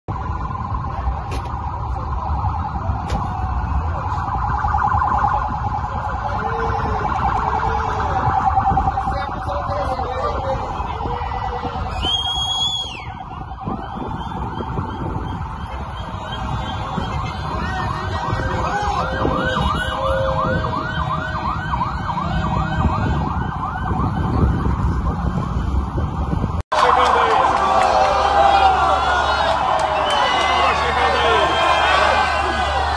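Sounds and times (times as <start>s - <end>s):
road traffic rumble: 0.1s - 32.9s
vehicle siren wailing: 0.1s - 32.9s.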